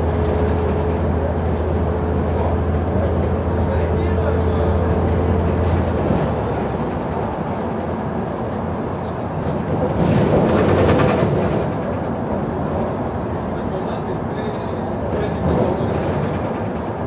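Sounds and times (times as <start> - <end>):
bus diesel engine idling: 0.0 - 9.9, 11.4 - 17.0.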